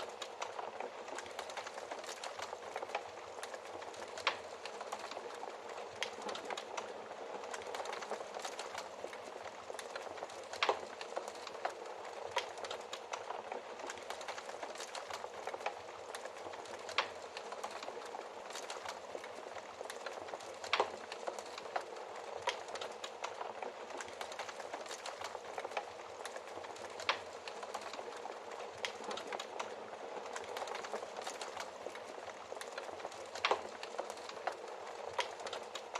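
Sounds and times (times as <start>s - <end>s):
fire popping: 0.0s - 35.9s
wood fire crackling: 0.0s - 35.9s.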